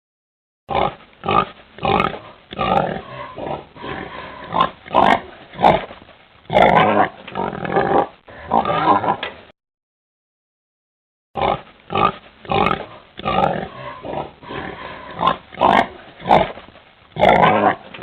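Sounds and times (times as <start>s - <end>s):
pig grunting and oinking: 0.7s - 9.4s, 11.4s - 16.6s, 17.2s - 18.0s.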